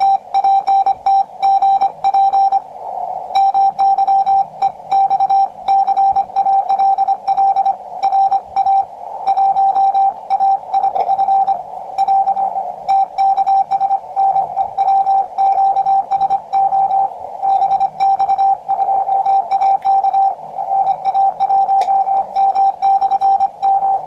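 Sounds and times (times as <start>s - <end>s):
morse code tone: 0.0s - 2.6s, 3.3s - 24.0s
receiver hiss: 0.0s - 24.0s.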